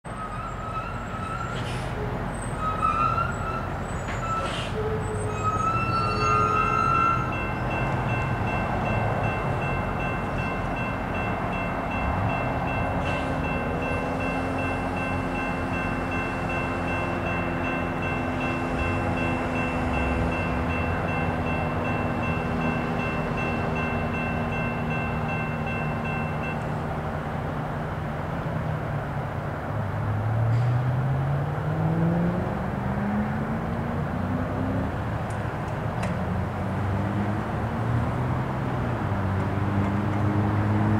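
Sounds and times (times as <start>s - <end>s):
diesel train engine rumble: 0.1s - 40.9s.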